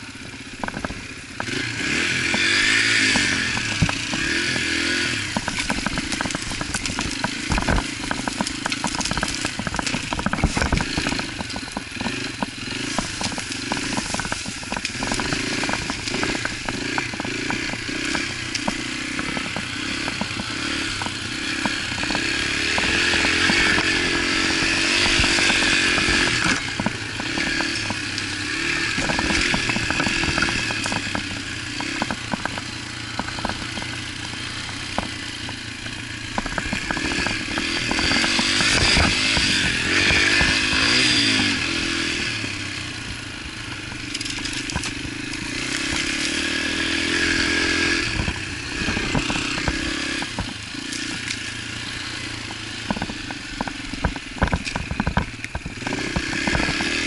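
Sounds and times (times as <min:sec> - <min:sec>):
dirt bike engine running: 0:00.0 - 0:57.0
bike knocks and rattles: 0:00.2 - 0:57.0.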